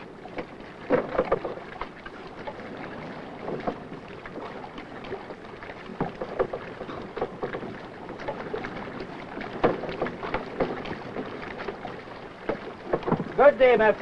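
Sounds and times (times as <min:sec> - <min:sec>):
knocks and thumps on a boat: 0:00.0 - 0:14.0.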